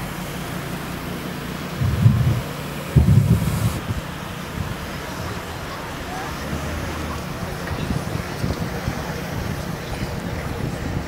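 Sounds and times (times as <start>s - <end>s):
vehicle engines rumbling: 0.0s - 11.0s
wind buffeting microphone: 1.6s - 11.0s.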